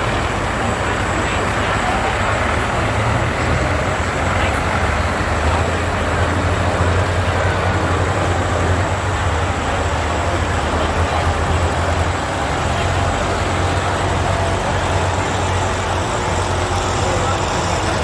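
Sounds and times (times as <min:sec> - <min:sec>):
tractor engine running loud: 0:00.0 - 0:18.0.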